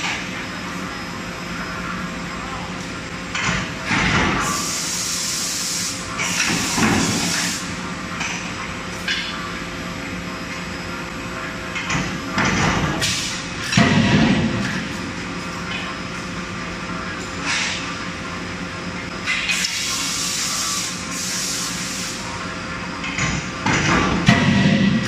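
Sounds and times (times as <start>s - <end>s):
machinery and fans humming: 0.0s - 25.0s.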